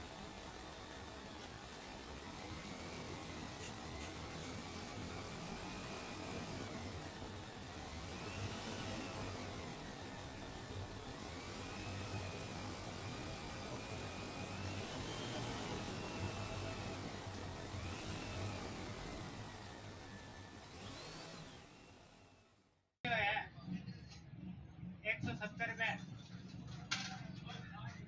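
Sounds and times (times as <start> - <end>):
vehicle motor humming and whining: 0.0 - 22.9.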